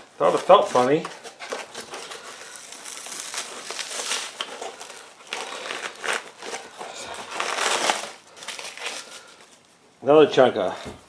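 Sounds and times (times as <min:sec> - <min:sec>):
packing material crinkling: 0:00.0 - 0:09.8.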